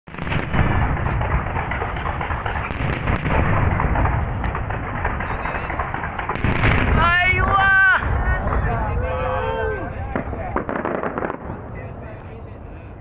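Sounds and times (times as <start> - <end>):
fireworks bursting: 0.1 - 13.0
fireworks crackling: 0.1 - 13.0.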